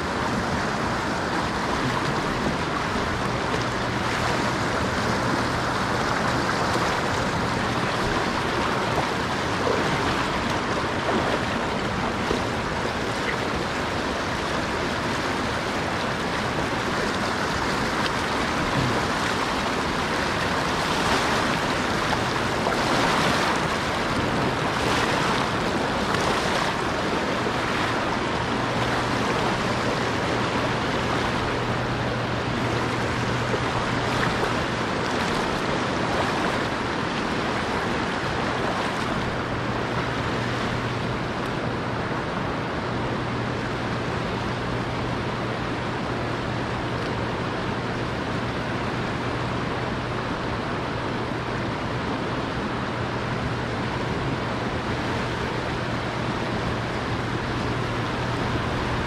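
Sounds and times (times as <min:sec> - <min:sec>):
water rushing over boulders: 0:00.0 - 0:59.0.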